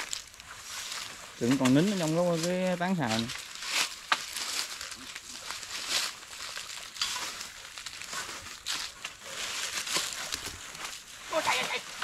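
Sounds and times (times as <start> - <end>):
dry vegetation rustling and crackling: 0.0 - 12.0.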